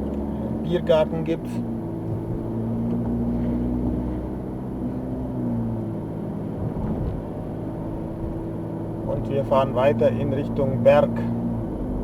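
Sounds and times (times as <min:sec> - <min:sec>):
car engine hum: 0:00.0 - 0:12.0
road rumble: 0:00.0 - 0:12.0.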